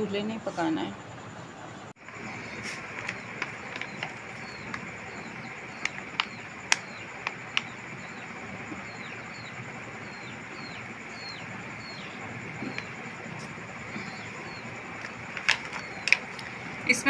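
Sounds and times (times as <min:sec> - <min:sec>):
steady background hiss: 0:00.0 - 0:17.0
small bird chirping: 0:02.0 - 0:17.0.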